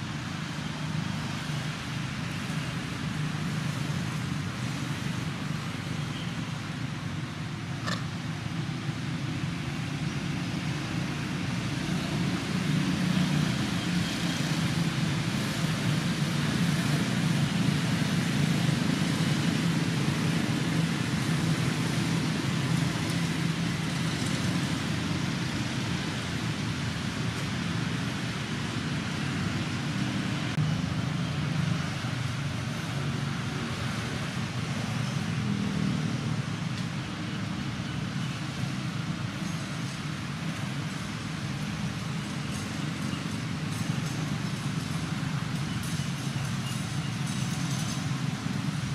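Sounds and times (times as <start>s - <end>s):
distant road traffic rumble: 0.0s - 48.9s.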